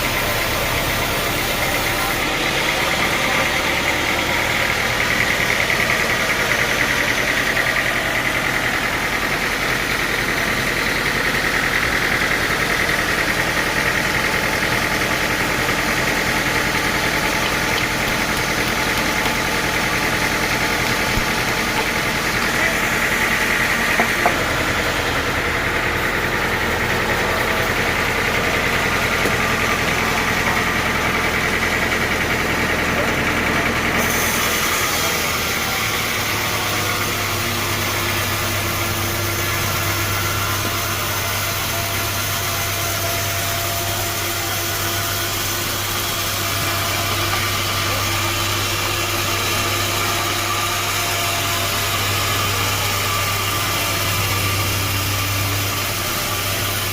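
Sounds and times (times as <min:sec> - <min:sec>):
sawmill machinery drone: 0:00.0 - 0:56.9.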